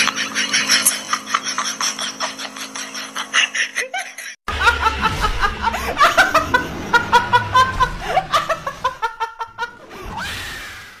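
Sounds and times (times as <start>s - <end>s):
young woman laughing: 0.0s - 9.8s.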